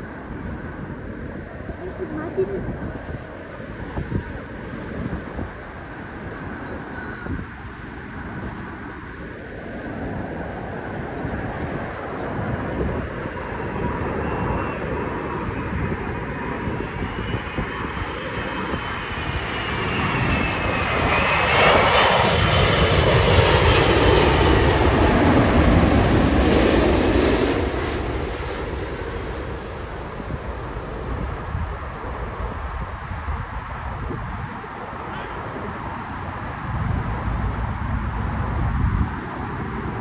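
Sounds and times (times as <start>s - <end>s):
jet airliner passing low: 0.0s - 40.0s.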